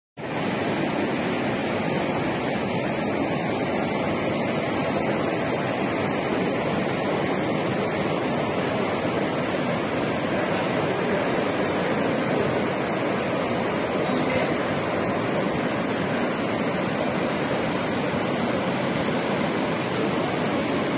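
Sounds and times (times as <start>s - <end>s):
water rushing through spillway: 0.2s - 20.9s.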